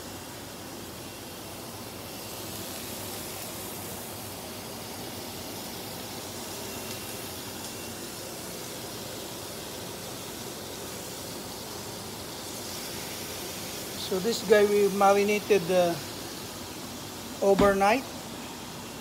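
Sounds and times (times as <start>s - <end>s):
exhaust fan running: 0.0s - 19.0s
steak sizzling in frying pan: 0.0s - 19.0s.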